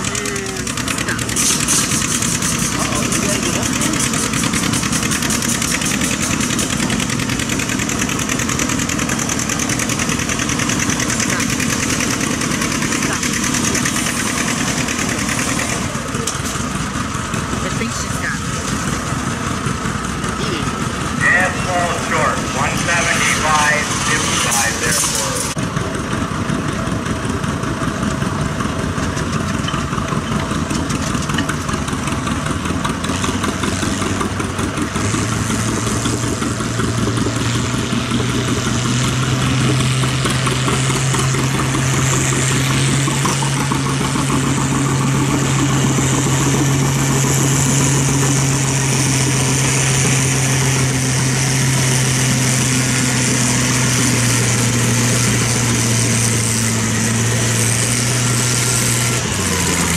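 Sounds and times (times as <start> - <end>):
tractor engine under load: 0.0 - 59.9.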